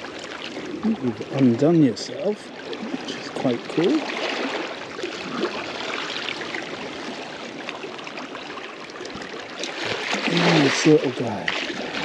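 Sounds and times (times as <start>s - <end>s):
seawater washing around rocks: 0.0s - 12.0s.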